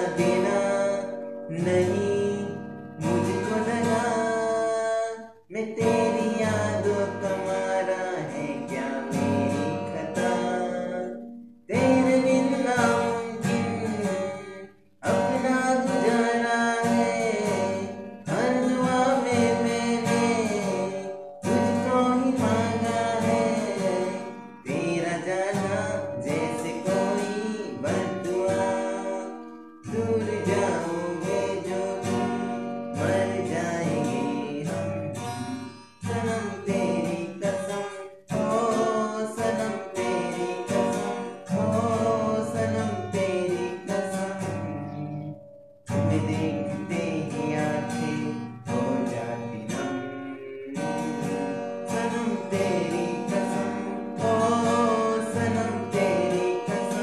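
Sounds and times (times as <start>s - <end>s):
acoustic guitar: 0.0s - 57.0s
man singing: 0.0s - 57.0s.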